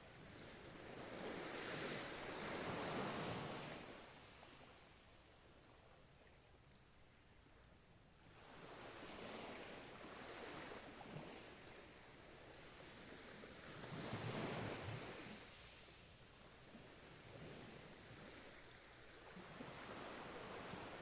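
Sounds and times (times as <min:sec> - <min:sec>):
ocean waves washing onto shore: 0:00.2 - 0:04.8, 0:08.3 - 0:21.0.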